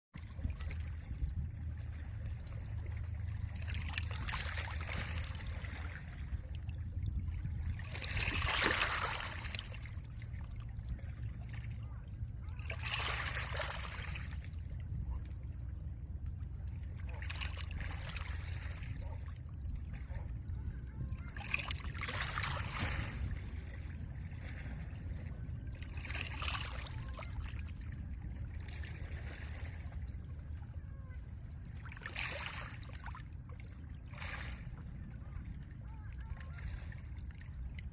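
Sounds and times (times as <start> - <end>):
steady low rumble: 0.2 - 37.9.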